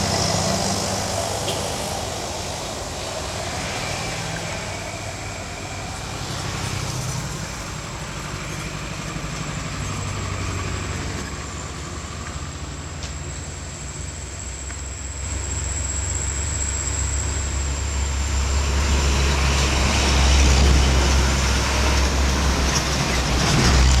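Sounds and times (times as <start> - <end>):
dump truck engine labouring: 0.0 - 24.0.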